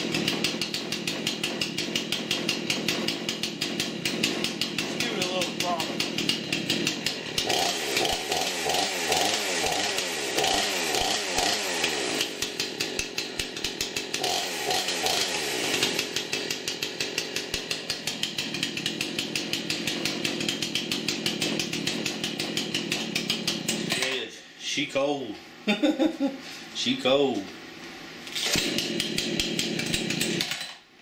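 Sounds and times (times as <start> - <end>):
chainsaw engine revving: 0.0 - 24.2, 28.3 - 30.8.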